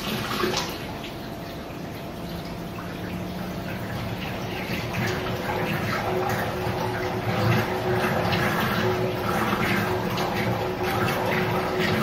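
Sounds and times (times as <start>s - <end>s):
washing machine hum: 0.0s - 12.0s
water and laundry sloshing: 0.0s - 12.0s.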